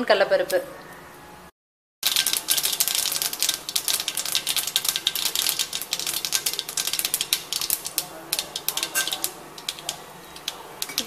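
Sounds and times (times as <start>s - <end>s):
mustard seeds crackling in hot oil: 2.0s - 11.0s.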